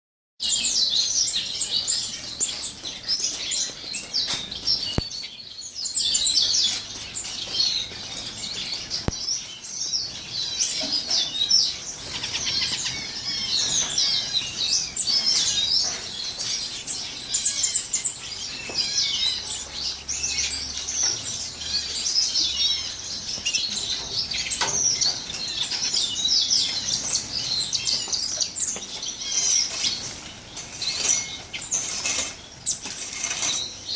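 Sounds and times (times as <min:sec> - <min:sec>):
small cage birds chirping: 0:00.4 - 0:33.9.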